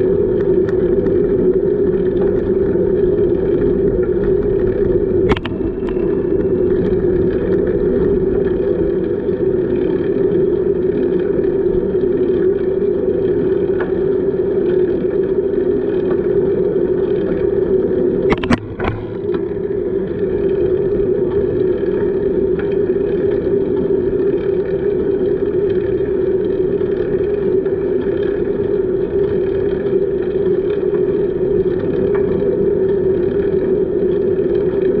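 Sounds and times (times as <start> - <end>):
bicycle rolling noise: 0.0 - 35.0.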